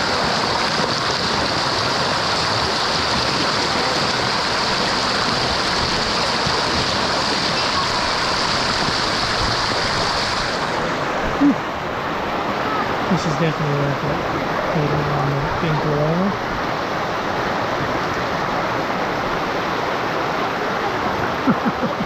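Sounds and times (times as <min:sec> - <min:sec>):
water rushing over rock: 0:00.0 - 0:22.0.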